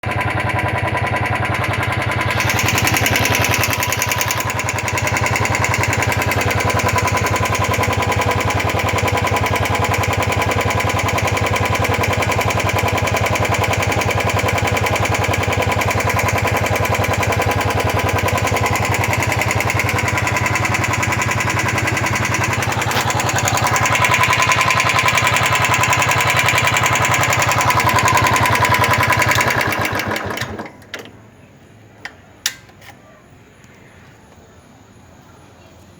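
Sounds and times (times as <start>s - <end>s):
motorcycle engine running: 0.0s - 30.7s.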